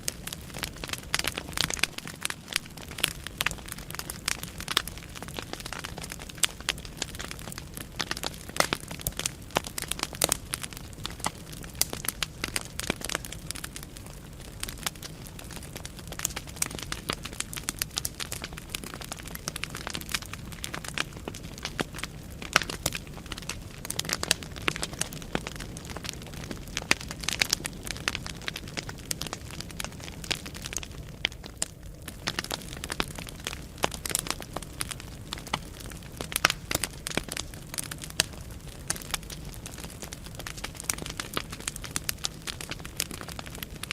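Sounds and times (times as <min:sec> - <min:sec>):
firewood crackling and popping: 0:00.0 - 0:43.9
low rumble of flame: 0:00.0 - 0:43.9.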